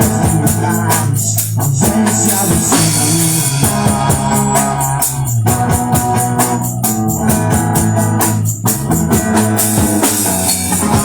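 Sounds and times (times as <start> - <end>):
reggae band playing: 0.0 - 11.0
held organ-like notes: 2.0 - 11.0.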